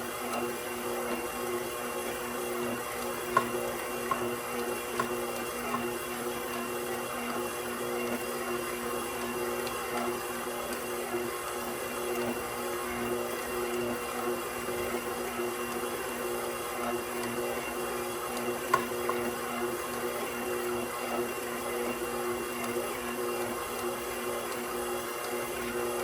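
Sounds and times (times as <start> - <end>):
stand mixer motor humming: 0.0 - 26.0.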